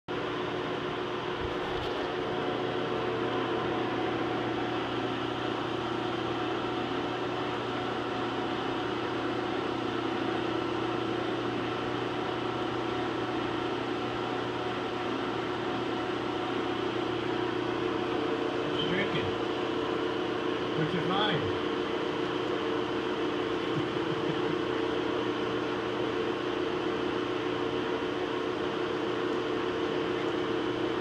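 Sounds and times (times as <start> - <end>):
workshop machinery humming: 0.1 - 31.0.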